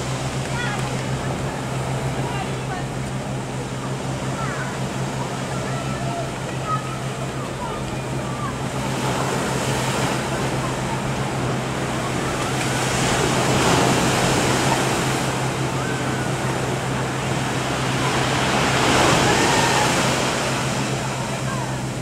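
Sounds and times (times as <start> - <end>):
constant low hum: 0.0 - 22.0
waves rushing: 0.0 - 22.0
wind: 0.0 - 22.0.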